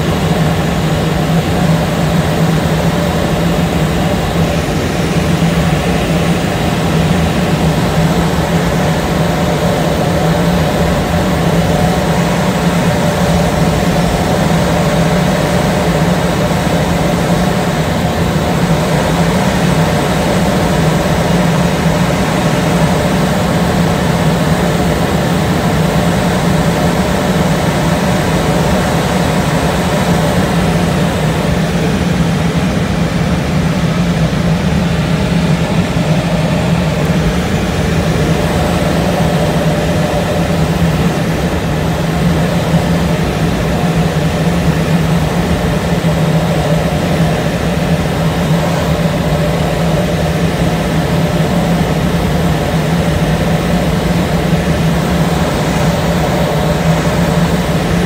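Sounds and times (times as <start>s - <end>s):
airflow rushing over canopy: 0.0s - 58.0s
tow plane engine drone: 0.0s - 58.0s.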